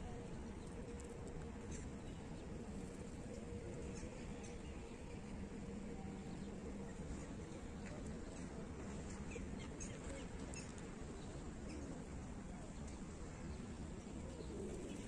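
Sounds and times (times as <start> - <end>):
city rumble and hiss: 0.0 - 15.0.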